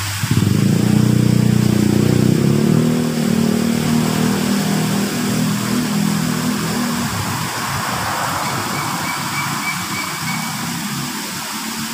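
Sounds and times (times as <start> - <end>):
vehicle engine running: 0.0 - 11.9
waterfall splashing into pond: 0.0 - 11.9.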